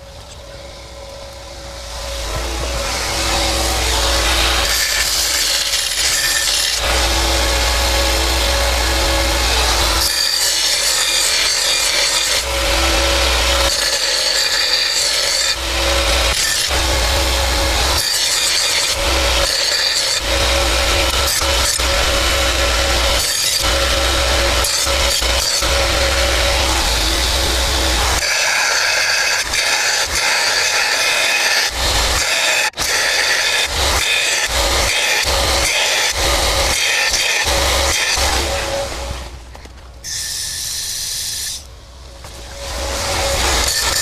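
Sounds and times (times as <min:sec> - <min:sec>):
belt sander running: 0:00.0 - 0:39.4
workpiece rasping on sander belt: 0:00.7 - 0:39.3.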